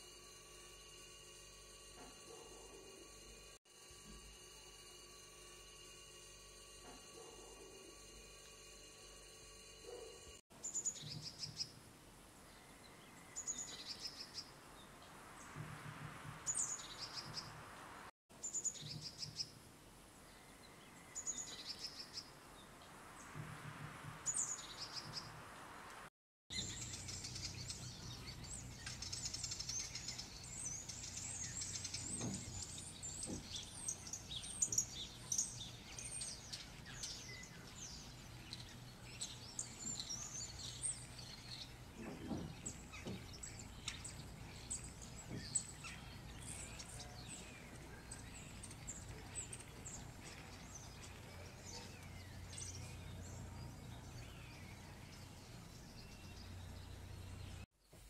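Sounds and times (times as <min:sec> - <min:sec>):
songbirds singing: 0:09.9 - 0:25.7, 0:26.5 - 0:58.0.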